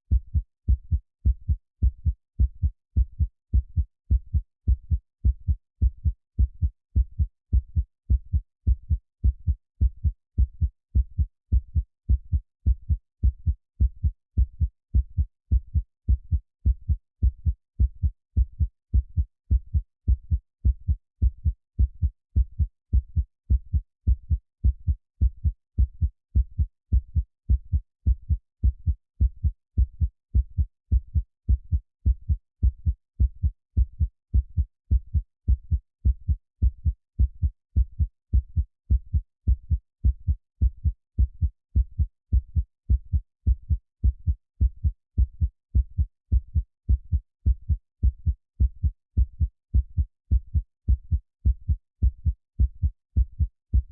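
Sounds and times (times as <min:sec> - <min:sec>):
heartbeat thumps: 0:00.1 - 0:53.5.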